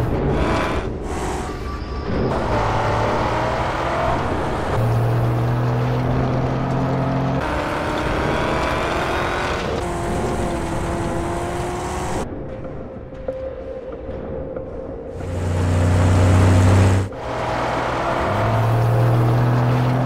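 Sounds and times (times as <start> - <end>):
vehicle engine sound effects: 0.0 - 12.3, 15.2 - 20.0.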